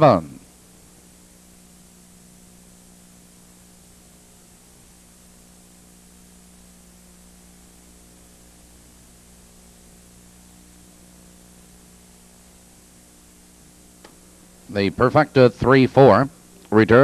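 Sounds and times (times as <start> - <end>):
low electrical hum: 0.0 - 17.0
steady background hiss: 0.0 - 17.0.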